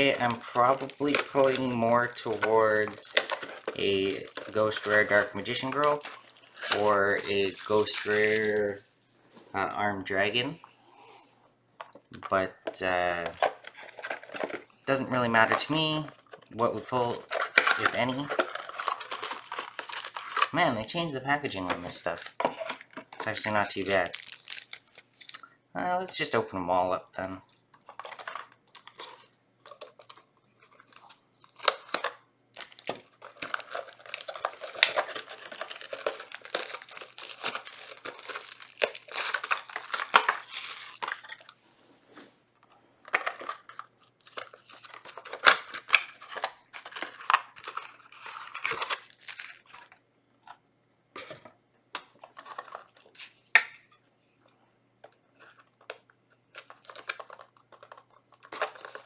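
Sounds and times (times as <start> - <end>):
packaging crinkling and tearing: 0.0 - 8.9, 13.2 - 25.6, 27.5 - 41.6, 43.0 - 50.0, 52.0 - 53.7, 55.4 - 59.0.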